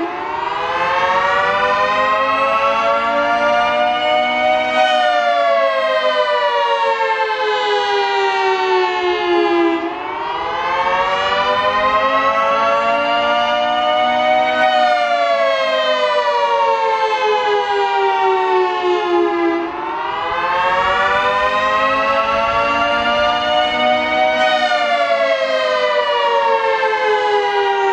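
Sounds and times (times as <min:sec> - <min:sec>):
warning siren rising and falling: 0:00.0 - 0:27.9.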